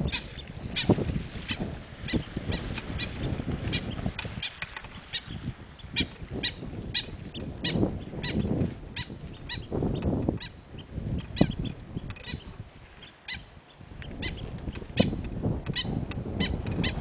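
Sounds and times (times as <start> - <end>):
birds honking calls: 0.0 - 17.0.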